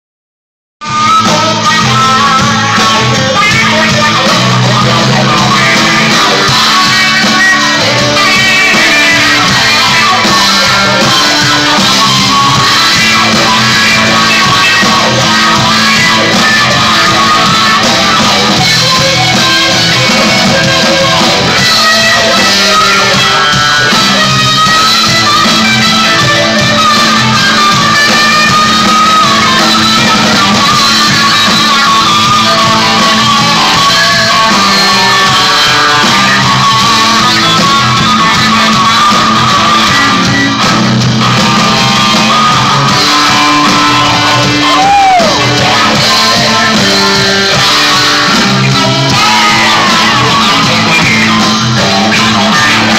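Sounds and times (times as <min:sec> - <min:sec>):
electric guitar: 0:00.8 - 0:52.9
live rock band playing: 0:00.8 - 0:52.9.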